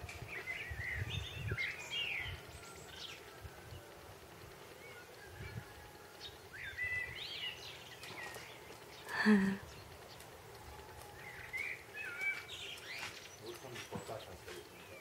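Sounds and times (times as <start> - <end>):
songbirds chirping and warbling: 0.0 - 15.0.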